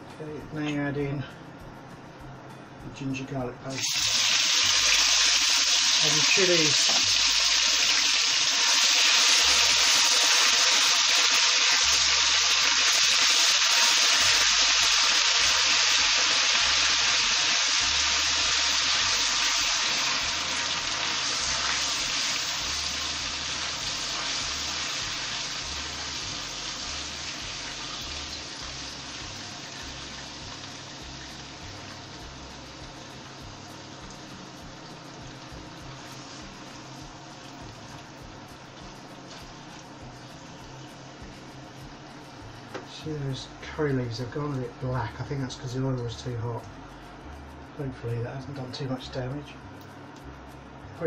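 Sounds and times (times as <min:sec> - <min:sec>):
food sizzling in hot oil: 0:03.7 - 0:51.0.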